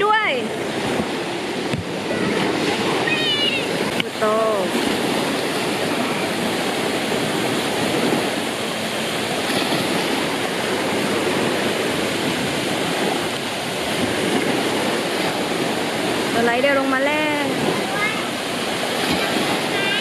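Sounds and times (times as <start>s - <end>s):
rushing water and pool waves: 0.0s - 20.0s.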